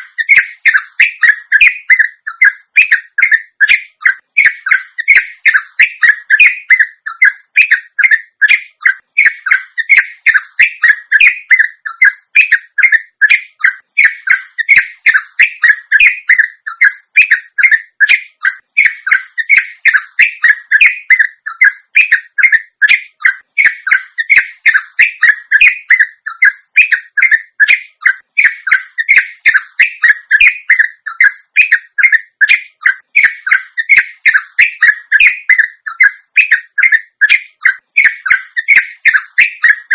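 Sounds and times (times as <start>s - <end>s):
bulbul calling rapid notes: 0.0s - 39.9s.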